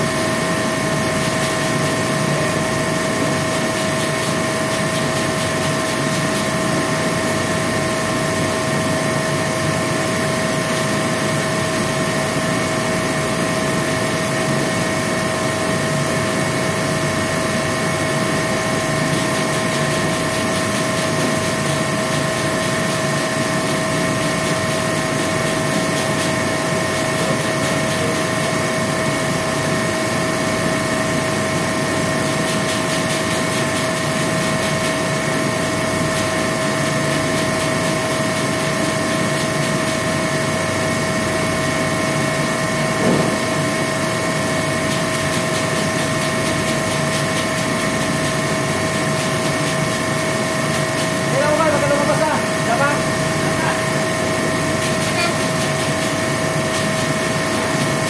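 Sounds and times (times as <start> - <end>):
machine humming with whining tones: 0.0 - 58.0.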